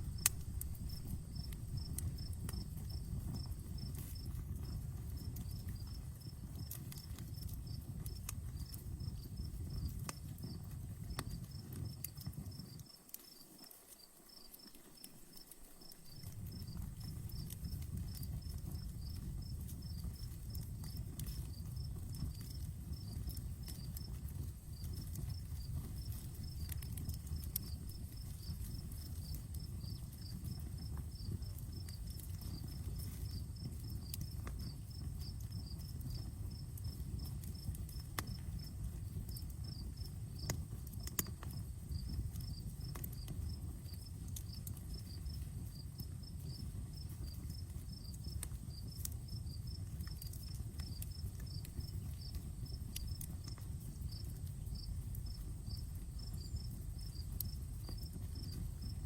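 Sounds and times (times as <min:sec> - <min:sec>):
insect chirping: 0:00.0 - 0:06.4, 0:12.6 - 0:37.7, 0:41.6 - 0:59.0
campfire crackling and popping: 0:00.0 - 0:59.0.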